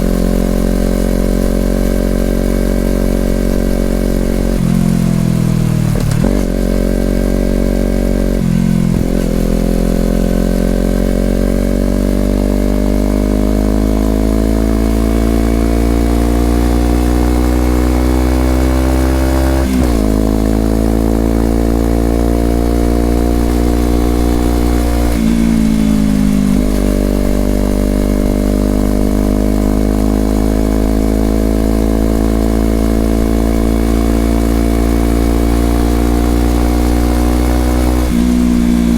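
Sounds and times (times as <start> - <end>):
motorcycle exhaust note climbing: 0.0 - 38.9.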